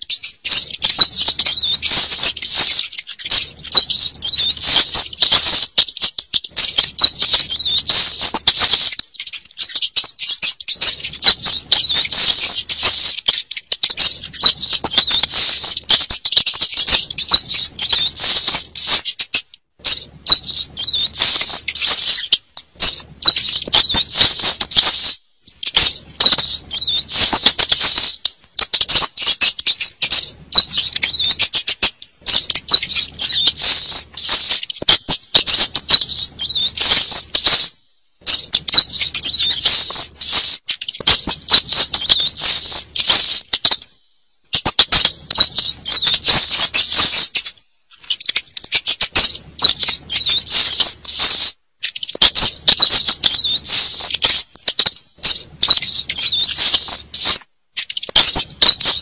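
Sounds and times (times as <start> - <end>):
rats squeaking: 0.0 - 59.0.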